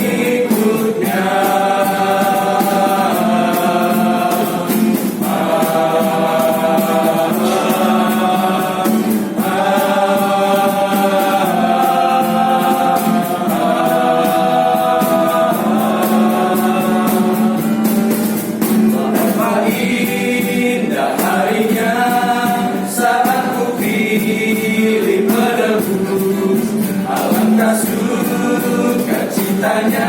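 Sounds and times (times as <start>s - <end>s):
choir singing held chords: 0.0s - 30.0s
steady accompaniment beat: 0.0s - 30.0s.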